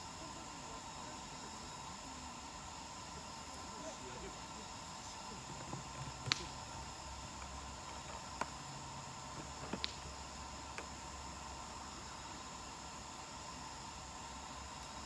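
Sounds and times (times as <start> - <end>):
soft steady hiss: 0.0 - 15.0
campfire crackling and popping: 1.0 - 15.0.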